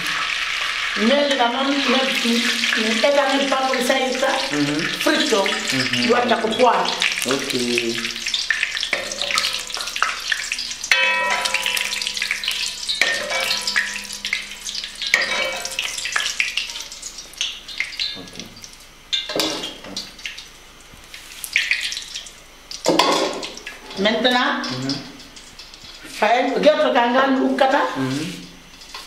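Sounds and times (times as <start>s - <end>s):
oil sizzling in a pot: 0.0s - 29.0s.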